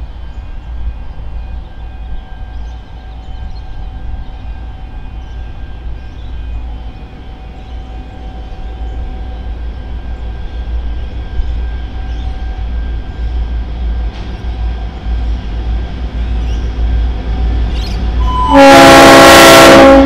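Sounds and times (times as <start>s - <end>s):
diesel locomotive rumble: 0.0s - 20.0s.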